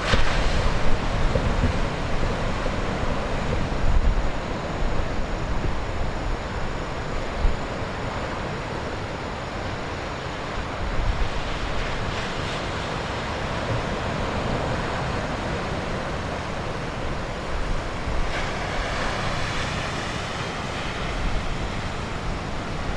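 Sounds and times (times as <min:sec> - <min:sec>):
heavy surf breaking: 0:00.0 - 0:09.0, 0:10.4 - 0:22.9
wind buffeting microphone: 0:00.0 - 0:09.3, 0:10.4 - 0:22.9.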